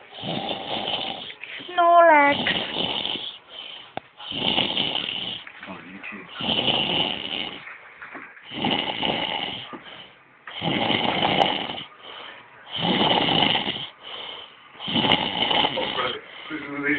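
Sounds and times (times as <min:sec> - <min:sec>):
snoring: 0:00.0 - 0:05.5, 0:06.2 - 0:07.7, 0:08.4 - 0:16.9.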